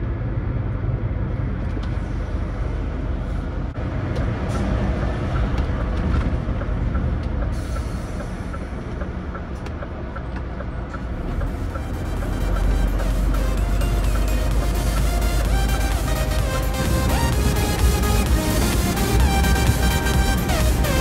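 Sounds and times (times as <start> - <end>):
road noise: 0.0 - 21.0
truck diesel engine rumble: 0.0 - 21.0.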